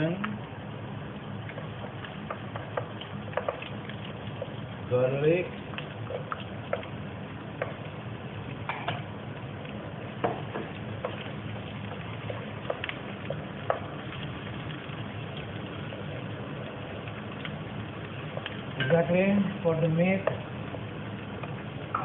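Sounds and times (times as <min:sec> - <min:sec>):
onion and garlic sizzling in oil: 0:00.0 - 0:22.0.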